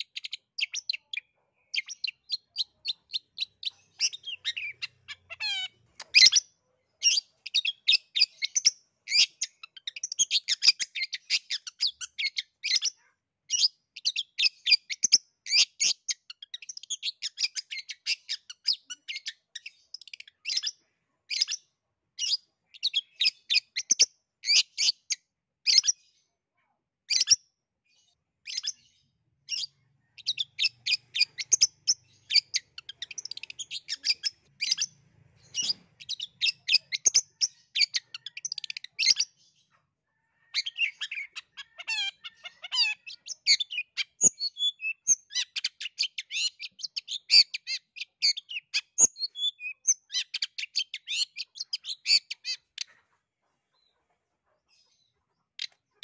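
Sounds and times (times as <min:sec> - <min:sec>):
bird singing chattering song: 0:00.0 - 0:26.2, 0:27.0 - 0:39.7, 0:40.3 - 0:53.0, 0:54.7 - 0:56.0.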